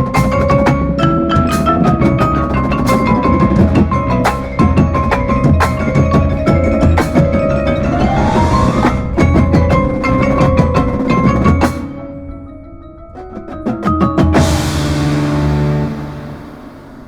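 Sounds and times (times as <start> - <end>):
marching drums: 0.0 - 12.0, 13.2 - 17.0
mallet keyboard notes: 0.0 - 16.5.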